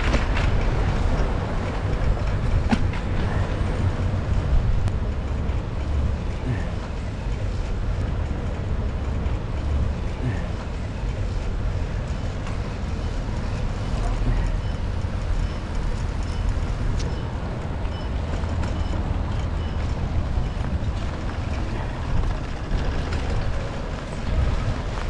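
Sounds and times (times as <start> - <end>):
bicycle road noise on wet streets: 0.0 - 25.0
rain: 0.0 - 25.0
wind rumbling on microphone: 0.0 - 25.0.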